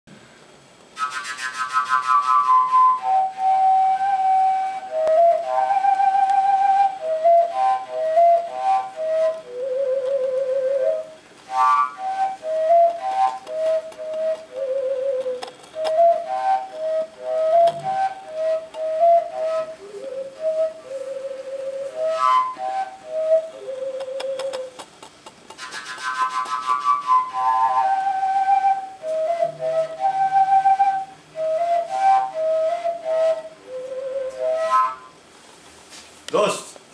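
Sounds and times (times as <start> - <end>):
overtone flute melody: 1.0 - 24.8, 25.6 - 35.3.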